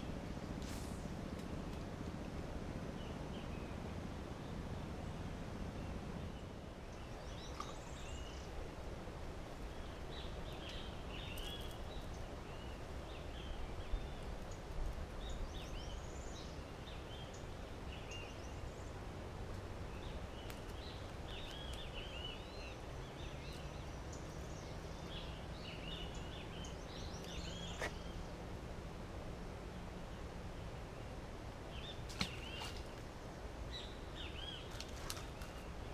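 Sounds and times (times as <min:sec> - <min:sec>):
low outdoor rumble: 0:00.0 - 0:35.9
low steady hum: 0:00.0 - 0:35.9
small birds chirping: 0:02.9 - 0:08.7, 0:09.6 - 0:28.4, 0:30.6 - 0:35.9.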